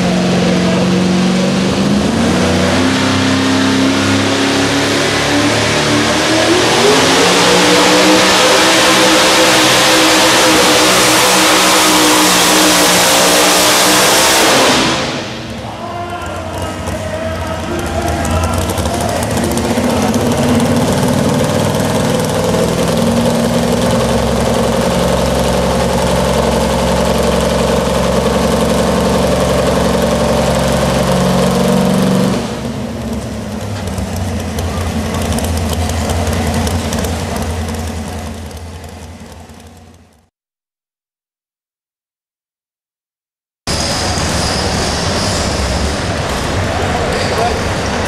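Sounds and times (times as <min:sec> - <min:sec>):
truck engine running: 0:00.0 - 0:40.3, 0:43.7 - 0:48.0.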